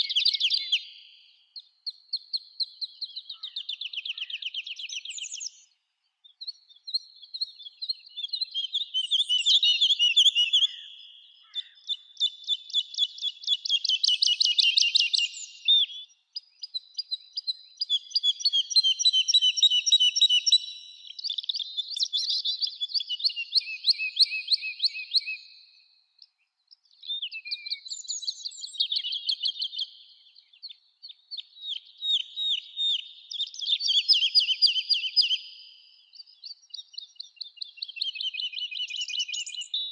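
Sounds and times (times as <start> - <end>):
songbird trilling and warbling: 0.0 - 1.1, 1.8 - 5.7, 6.3 - 25.6, 26.8 - 39.9.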